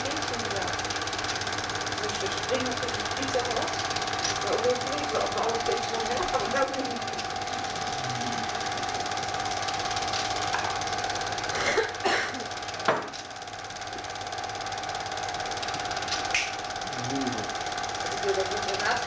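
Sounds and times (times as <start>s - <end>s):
film projector running: 0.0s - 19.0s.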